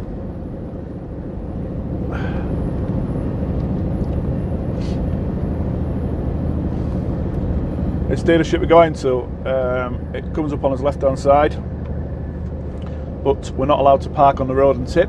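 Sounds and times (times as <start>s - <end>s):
diesel engine drone: 0.0s - 15.0s
road noise: 0.0s - 15.0s.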